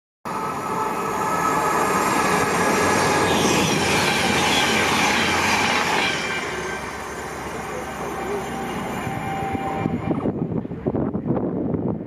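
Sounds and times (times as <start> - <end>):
wheel-on-rail noise: 0.3 - 11.0
train engine passing: 0.3 - 12.0.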